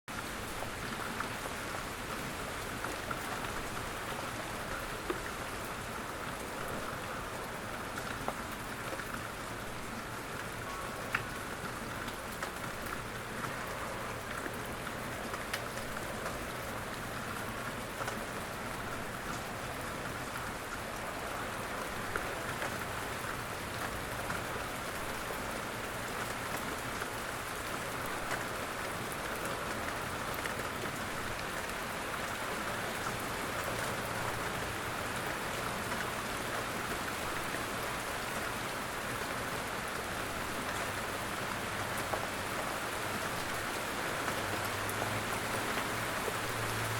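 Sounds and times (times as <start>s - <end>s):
steady rain falling: 0.1s - 46.9s.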